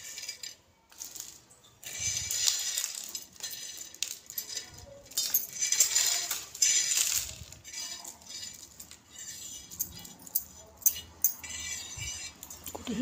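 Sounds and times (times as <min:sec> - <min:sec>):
crisp snack crackling on a plate: 0:00.0 - 0:12.9.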